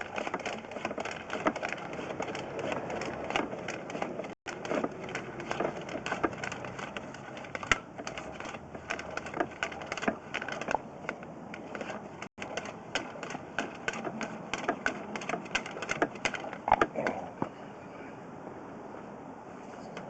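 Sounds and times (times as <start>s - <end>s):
camera and cable clicking and rattling: 0.0s - 17.2s.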